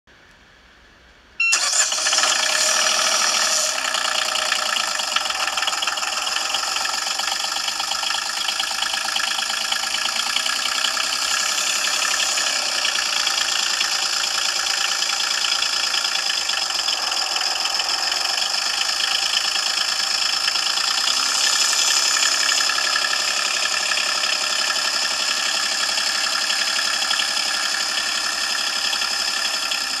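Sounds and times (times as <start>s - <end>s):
diesel engine running: 1.5s - 30.0s.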